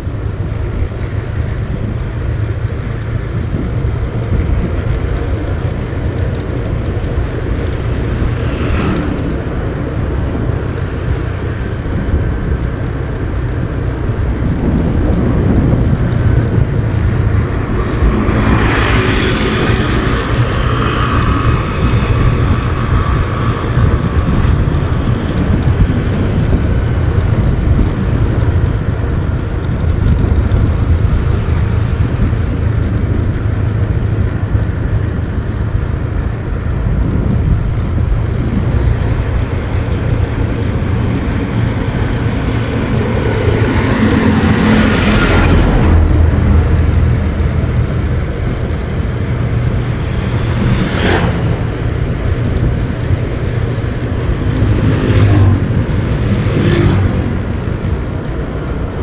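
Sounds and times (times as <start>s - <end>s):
motorbike engine running: 0.0s - 59.0s
wind rumble on microphone: 0.0s - 59.0s.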